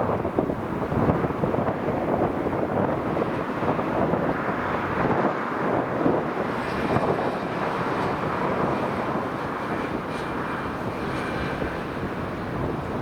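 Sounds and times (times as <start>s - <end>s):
airliner engines rushing: 0.0s - 13.0s.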